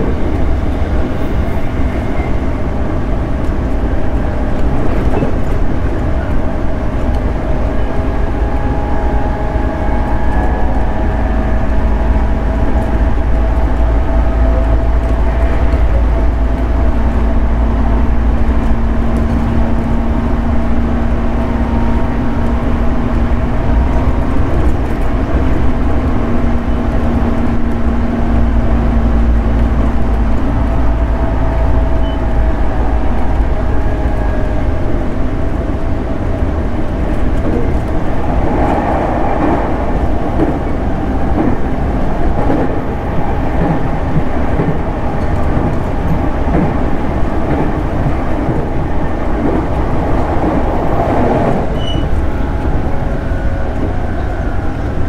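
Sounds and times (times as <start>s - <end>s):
train car rumbling on rails: 0.0s - 55.0s.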